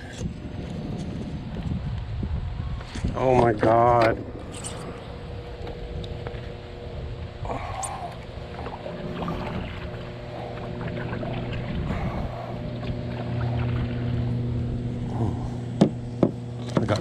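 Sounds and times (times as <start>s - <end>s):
low electric hum: 0.0s - 17.0s.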